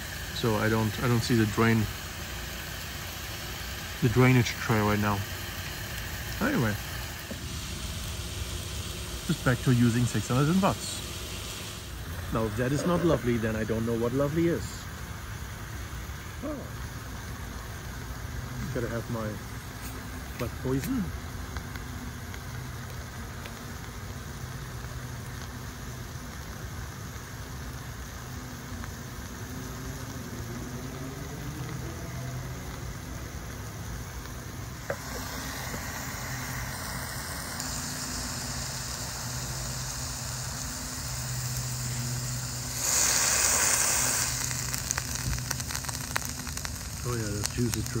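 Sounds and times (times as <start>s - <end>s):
meat sizzling on a grill: 0.0s - 48.0s.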